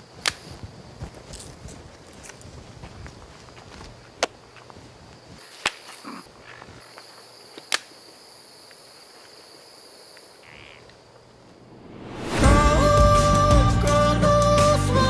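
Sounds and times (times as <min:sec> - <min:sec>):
insects chirring: 0:00.0 - 0:12.2.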